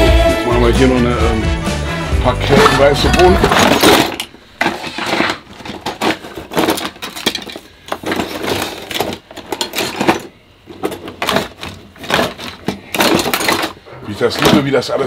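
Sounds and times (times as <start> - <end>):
metal utensils clinking: 2.6 - 14.7.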